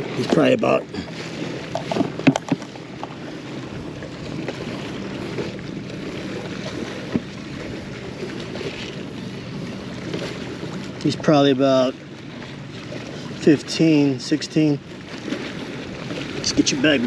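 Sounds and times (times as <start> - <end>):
faint low motor hum: 0.0 - 17.0
water noise: 0.0 - 17.0.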